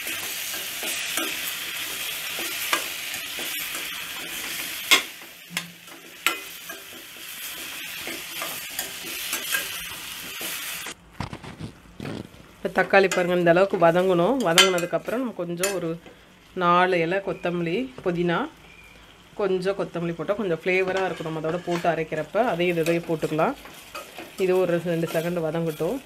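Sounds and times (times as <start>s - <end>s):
vegetables sizzling in oil: 0.0s - 11.0s, 12.1s - 26.0s.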